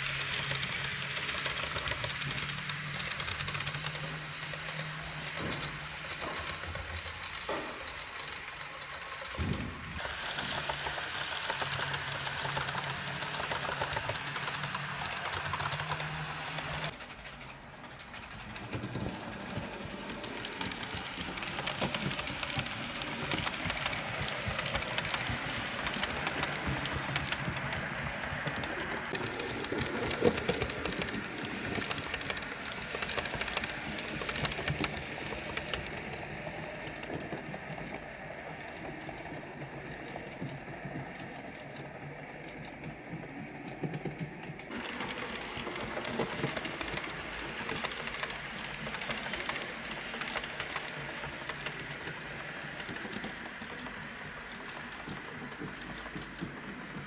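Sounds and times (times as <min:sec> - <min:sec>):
wheels clicking on rail: 0:00.0 - 0:57.0.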